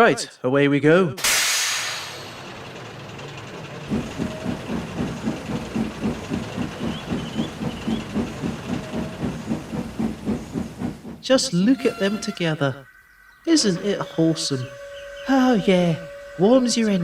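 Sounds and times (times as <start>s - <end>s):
steam locomotive chuffing: 1.2s - 17.0s.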